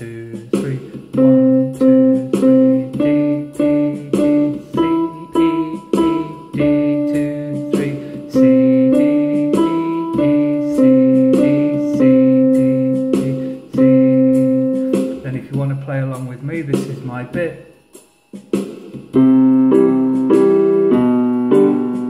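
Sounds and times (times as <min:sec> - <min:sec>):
steady drum beat: 0:00.0 - 0:22.0
electronic keyboard melody: 0:00.6 - 0:15.7, 0:19.1 - 0:22.0.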